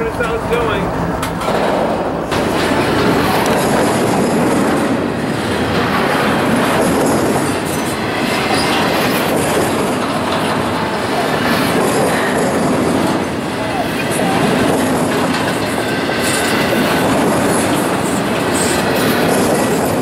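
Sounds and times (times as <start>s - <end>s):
steel wheels on rails: 0.0s - 20.0s.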